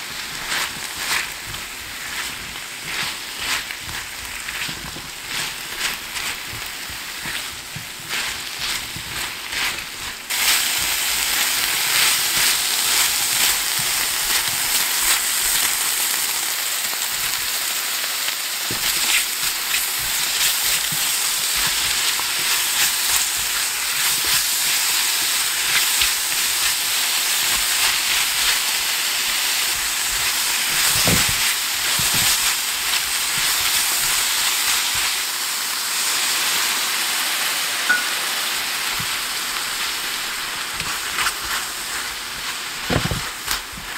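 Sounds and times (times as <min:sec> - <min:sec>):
food sizzling in a frying pan: 0:00.0 - 0:43.9.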